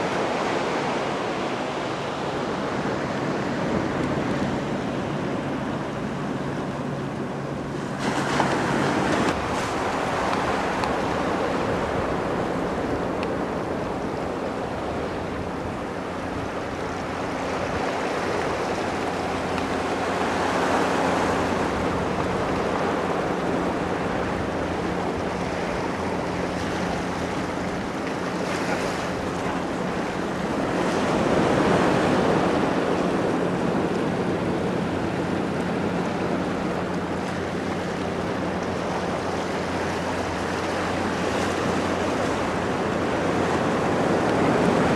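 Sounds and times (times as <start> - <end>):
ocean surf on rocks: 0.0 - 44.9.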